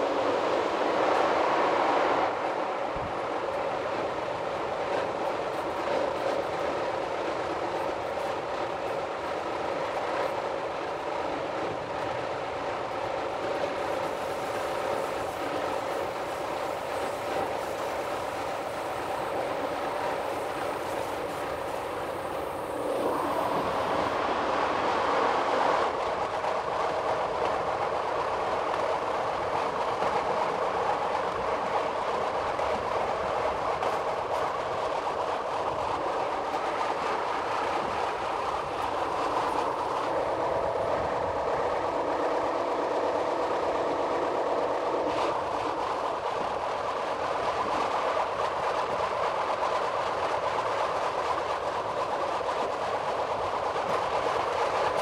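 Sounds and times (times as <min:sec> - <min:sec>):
electric train rumbling with whine: 0:00.0 - 0:55.0.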